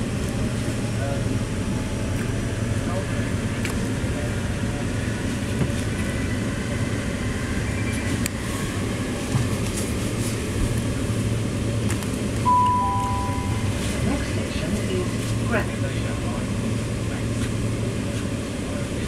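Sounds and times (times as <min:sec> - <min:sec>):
train rumble inside carriage: 0:00.0 - 0:19.0.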